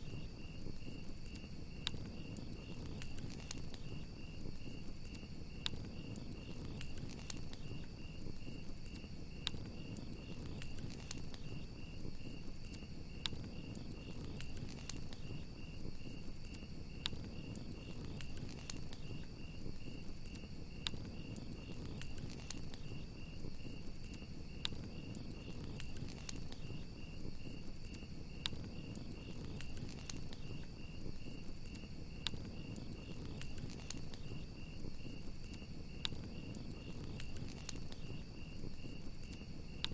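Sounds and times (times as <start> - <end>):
crickets chirping: 0.0 - 39.9
fire popping: 0.0 - 39.9
wood fire crackling: 0.0 - 39.9.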